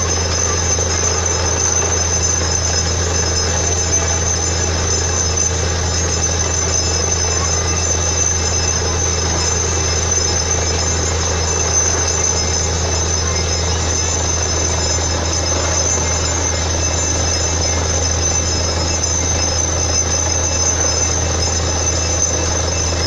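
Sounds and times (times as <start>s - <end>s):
drilling rig engine drone: 0.0s - 23.0s
high steady whine: 0.0s - 23.0s.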